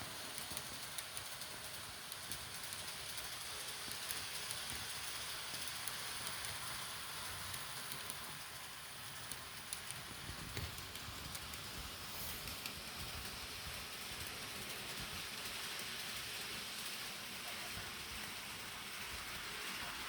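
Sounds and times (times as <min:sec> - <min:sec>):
model train rattling on track: 0:00.0 - 0:20.0.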